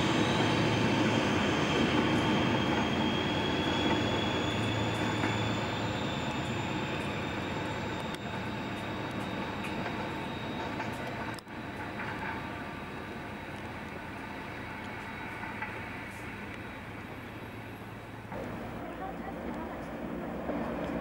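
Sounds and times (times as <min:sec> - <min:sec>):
diesel train engine pulling away: 0:00.0 - 0:21.0.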